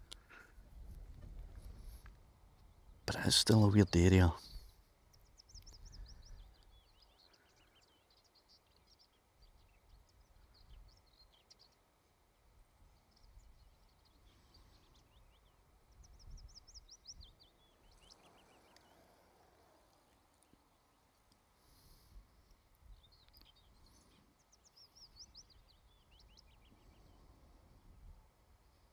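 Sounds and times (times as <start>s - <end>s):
faint birdsong: 0.0s - 28.9s.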